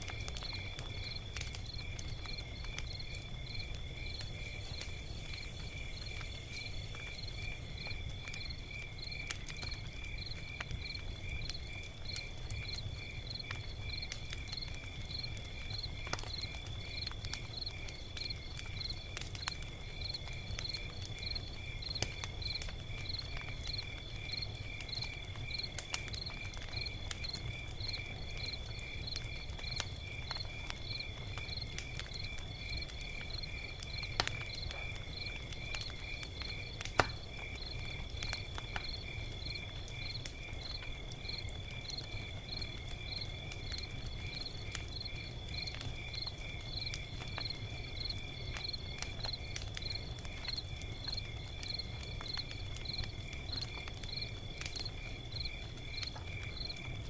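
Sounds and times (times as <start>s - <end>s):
log fire crackling and popping: 0.0s - 57.0s
insects chirping: 0.1s - 57.0s.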